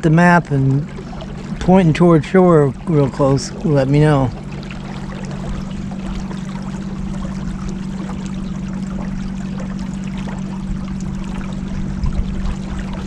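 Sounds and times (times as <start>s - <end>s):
boat motor hum: 0.0s - 13.0s
water rushing along hull: 0.0s - 13.0s.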